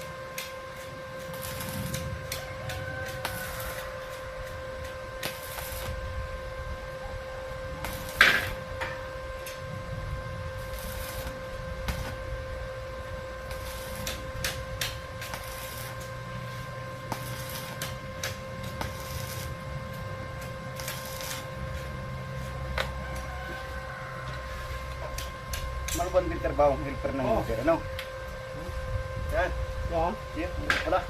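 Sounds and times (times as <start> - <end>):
steady high hum: 0.0 - 31.0
welding arc crackling: 0.0 - 31.0.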